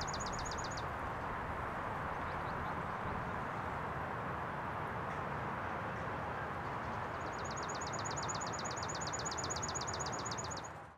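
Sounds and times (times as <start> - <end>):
outdoor background hiss: 0.0 - 10.9.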